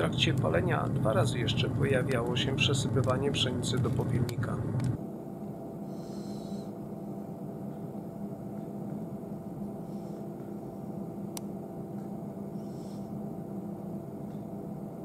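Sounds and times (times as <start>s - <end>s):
boiler humming: 0.0s - 15.0s.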